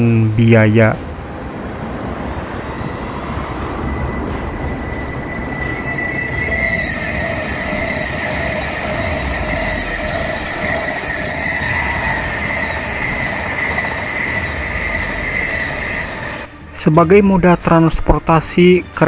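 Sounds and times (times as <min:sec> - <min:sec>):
high-pitched train whine: 0:00.0 - 0:18.2
train wheels rushing on rails: 0:00.3 - 0:17.5.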